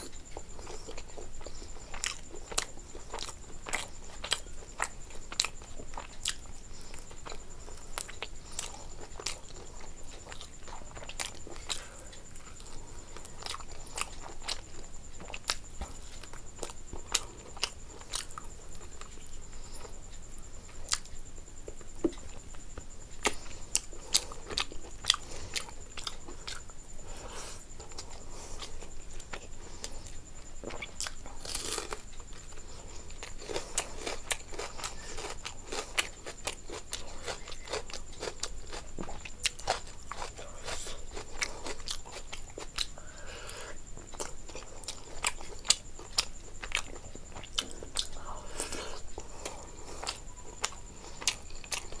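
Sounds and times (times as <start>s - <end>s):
chewing crunchy food: 0.0s - 52.0s.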